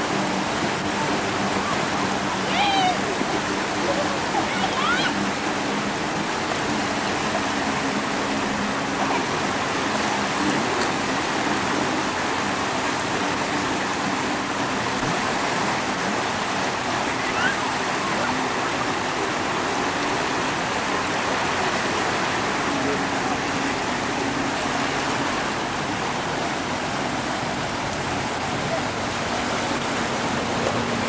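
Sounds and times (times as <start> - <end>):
small waves washing ashore: 0.0 - 31.0.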